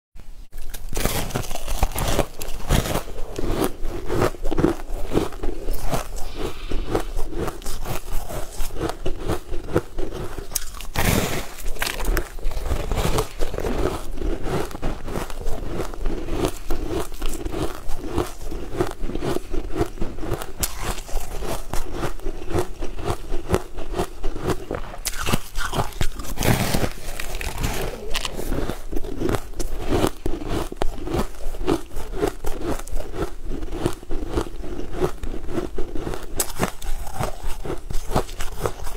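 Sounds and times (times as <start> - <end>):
person chewing crumbly cake: 0.5 - 38.9.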